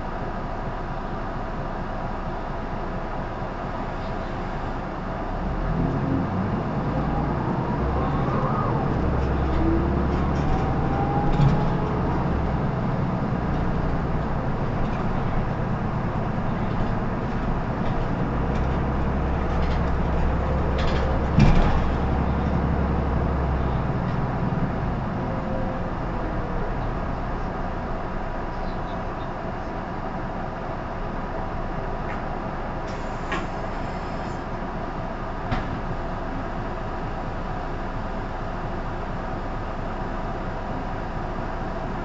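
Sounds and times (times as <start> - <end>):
diesel bus engine rumble: 0.0 - 42.0
road noise: 0.0 - 42.0.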